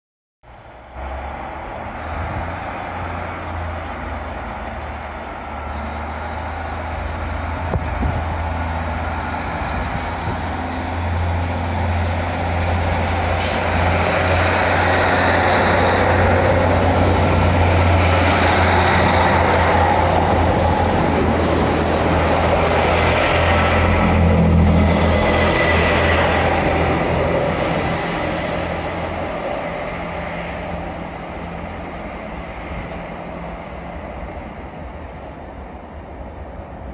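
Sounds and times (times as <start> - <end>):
diesel train engine drone: 0.4 - 36.9
wheel and rail rumble: 0.5 - 36.9.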